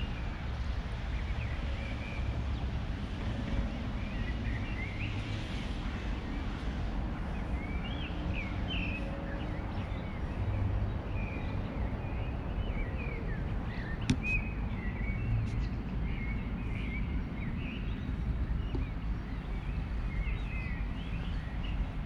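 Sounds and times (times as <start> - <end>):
small birds chirping: 1.1 - 22.0.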